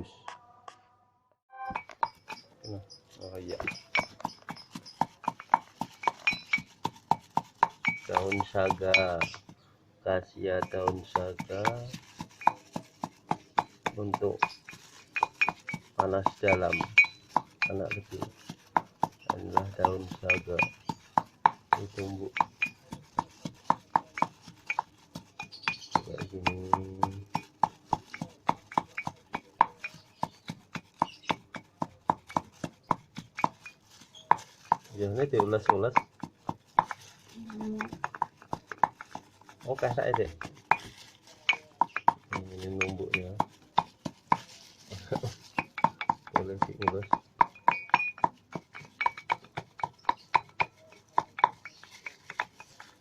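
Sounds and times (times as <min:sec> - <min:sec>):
pestle scraping: 0:01.6 - 0:09.6, 0:10.2 - 0:53.0
pestle pounding in a mortar: 0:01.7 - 0:09.6, 0:10.4 - 0:53.0.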